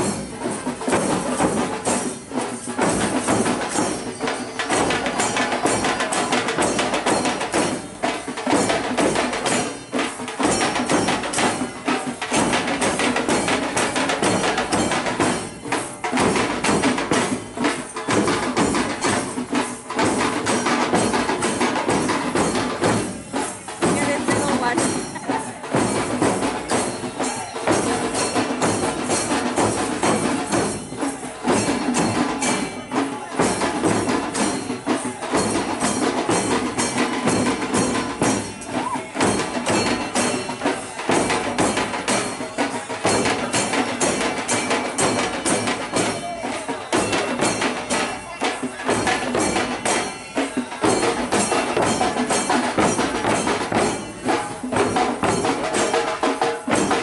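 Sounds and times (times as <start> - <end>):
barrel drums beaten fast: 0.0 - 57.0.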